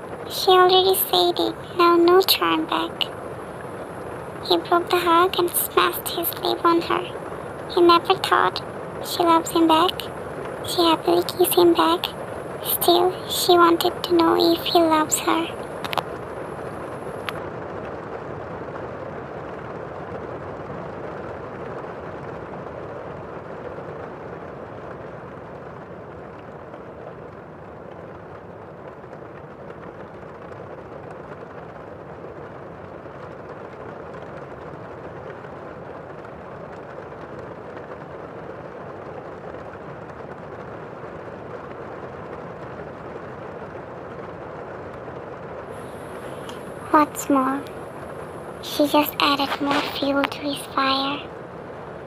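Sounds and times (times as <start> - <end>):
muffled rain: 0.0 - 52.0.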